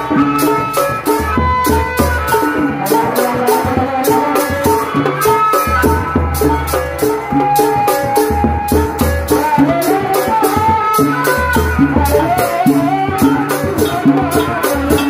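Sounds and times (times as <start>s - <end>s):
heavy low drums: 0.0s - 15.0s
steady rattling beat: 0.0s - 15.0s
wavering melody line: 0.0s - 15.0s.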